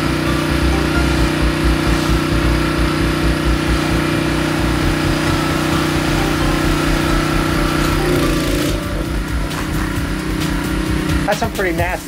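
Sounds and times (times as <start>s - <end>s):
pressure washer engine running: 0.0s - 12.0s
water jet spraying siding: 0.0s - 12.0s.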